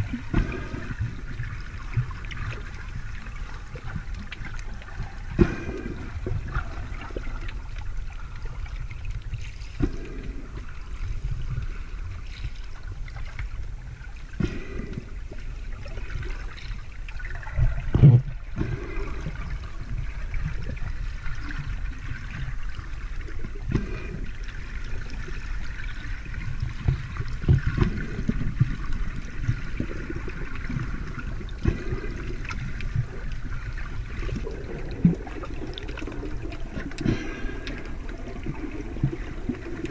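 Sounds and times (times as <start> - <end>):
underwater water gurgling: 0.0 - 39.9.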